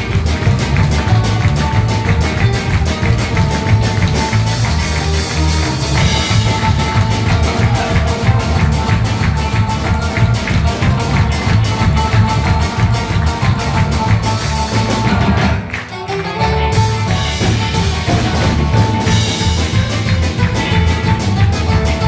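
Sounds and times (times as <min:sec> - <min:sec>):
live band playing upbeat music: 0:00.0 - 0:22.0.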